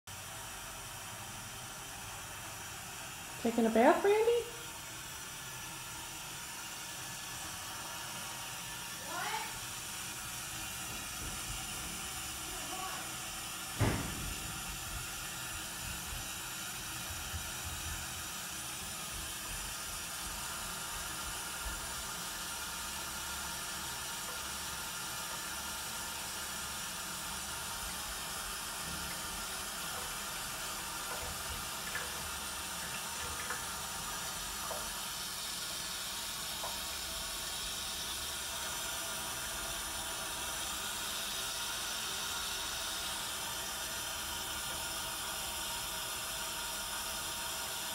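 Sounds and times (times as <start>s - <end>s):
faucet water running into tub: 0.1s - 47.9s.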